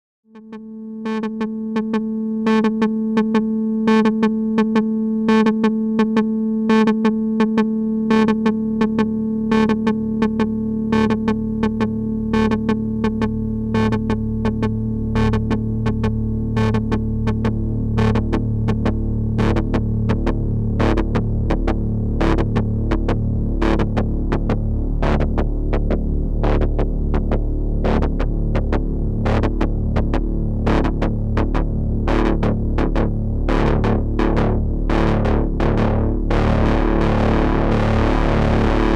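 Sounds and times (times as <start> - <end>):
buzzing synthesizer drone: 0.4 - 38.9
deep bass tone: 0.6 - 38.9.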